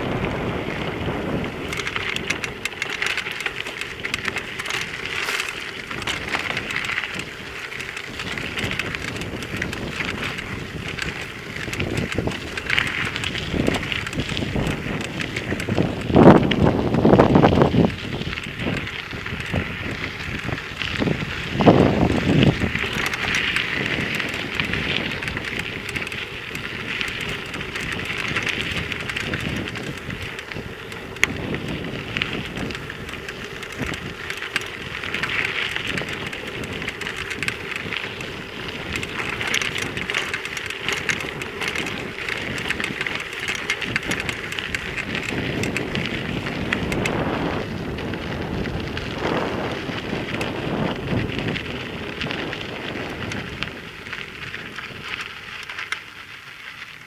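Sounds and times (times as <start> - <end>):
wind on microphone: 0.0 - 55.6
tyres on gravel: 0.0 - 57.0.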